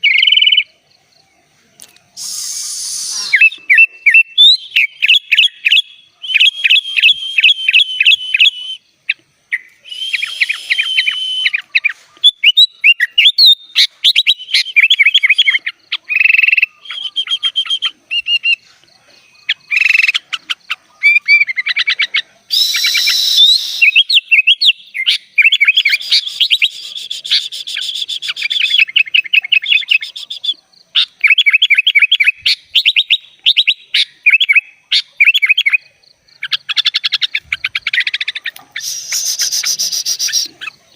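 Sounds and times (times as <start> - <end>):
bulbul singing trills and whistles: 0.0 - 40.9.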